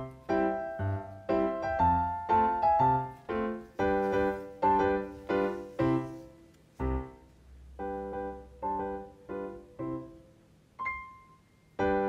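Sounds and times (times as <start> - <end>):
light piano music: 0.0 - 12.0.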